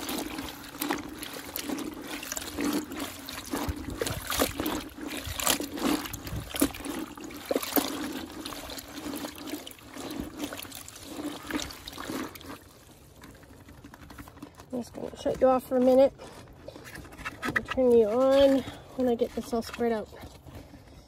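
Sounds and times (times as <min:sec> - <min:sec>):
liquid trickling and splashing: 0:00.0 - 0:20.8
wet fabric squelching: 0:00.0 - 0:20.8.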